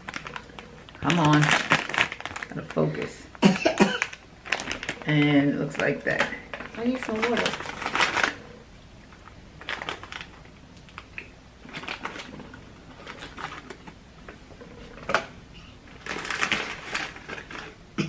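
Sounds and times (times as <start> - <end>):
foil snack bag crinkling: 0.0 - 14.0, 15.9 - 17.8.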